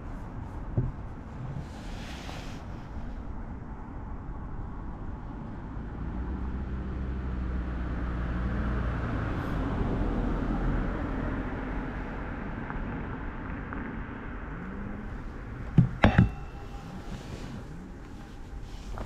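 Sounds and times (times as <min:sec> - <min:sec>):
outdoor background noise: 0:00.0 - 0:19.0
vehicle engine humming: 0:00.0 - 0:19.0.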